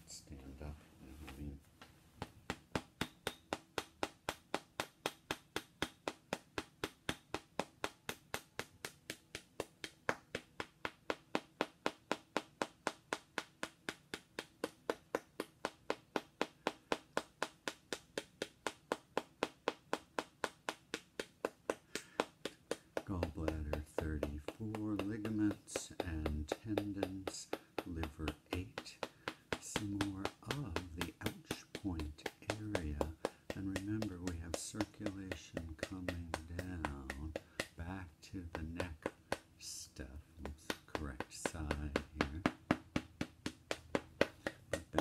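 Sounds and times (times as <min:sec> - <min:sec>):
small hammer tapping figurine: 0:02.2 - 0:45.0.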